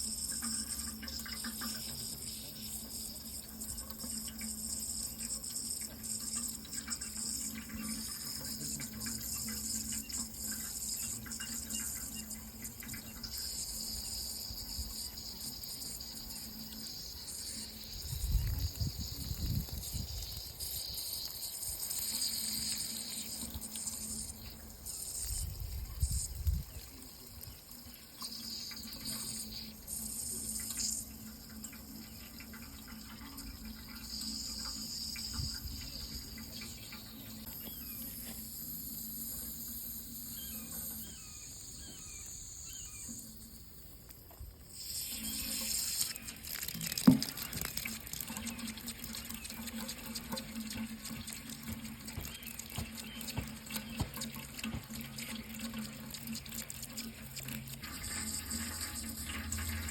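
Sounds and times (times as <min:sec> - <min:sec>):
water running: 0:00.0 - 0:59.9.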